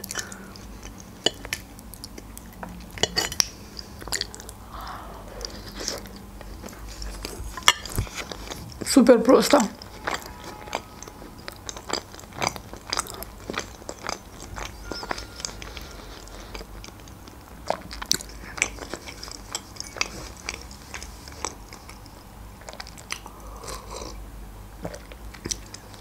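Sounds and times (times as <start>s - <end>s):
wet chewing mouth sounds: 0.0s - 24.2s, 24.8s - 26.0s.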